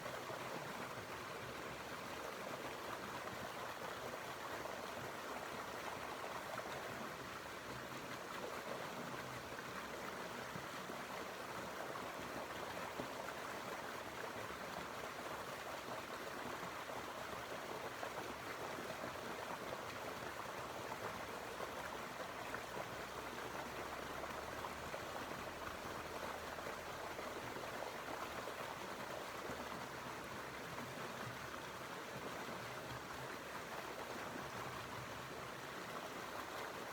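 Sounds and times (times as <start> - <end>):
stream flowing over rocks: 0.0 - 36.9.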